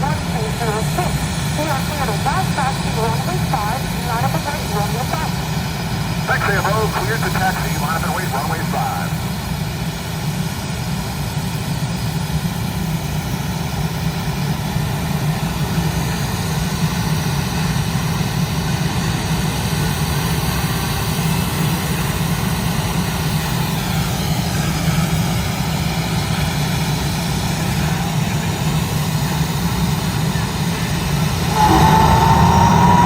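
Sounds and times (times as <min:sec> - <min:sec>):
jet engines low drone and whine: 0:00.0 - 0:33.0.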